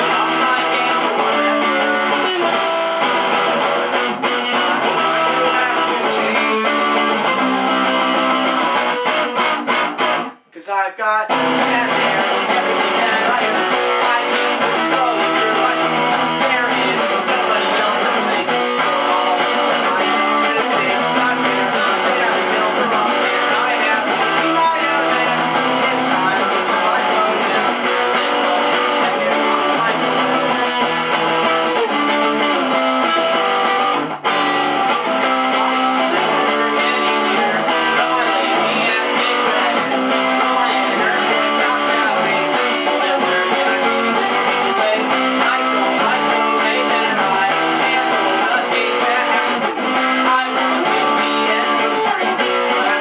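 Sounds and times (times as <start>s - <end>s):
electric guitar strumming chords: 0.0s - 10.4s, 11.3s - 53.0s.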